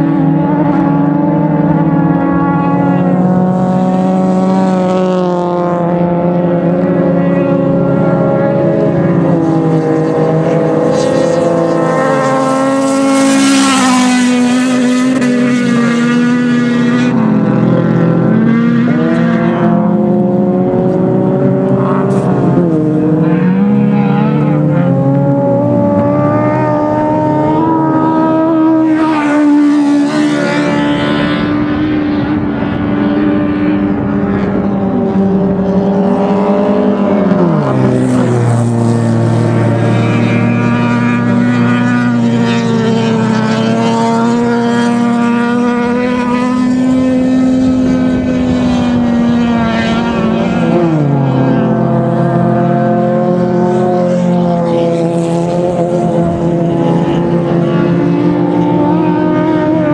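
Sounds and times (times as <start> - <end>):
racing car engines at high revs: 0.0 - 59.9.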